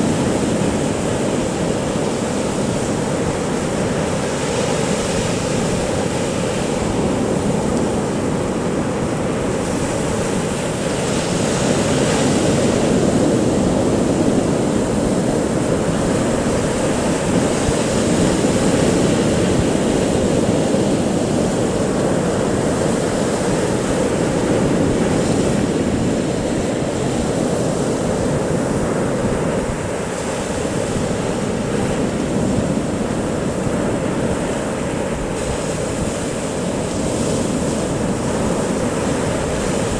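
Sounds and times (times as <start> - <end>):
sea waves breaking on beach: 0.0 - 39.9
wind buffeting microphone: 0.0 - 39.9.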